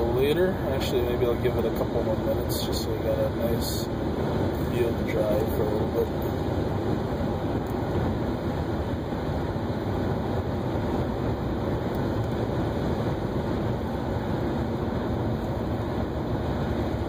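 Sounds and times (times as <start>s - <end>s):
car road noise inside cabin: 0.0s - 17.0s.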